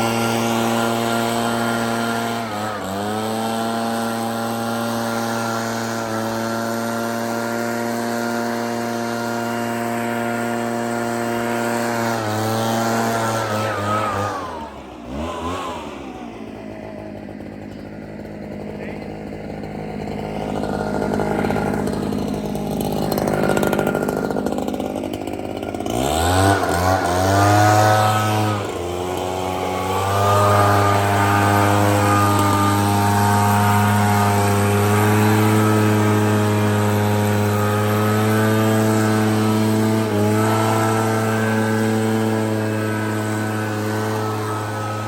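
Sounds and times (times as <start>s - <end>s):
leaf blower engine revving: 0.0s - 45.0s.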